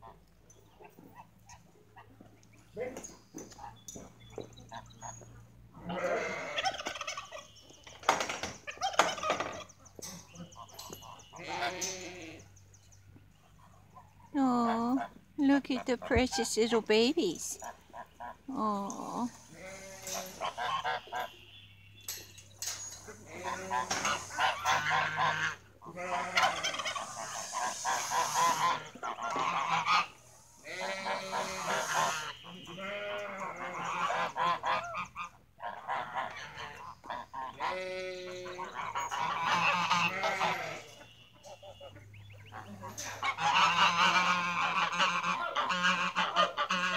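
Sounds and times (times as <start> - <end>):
birds calling: 0.0 - 46.9.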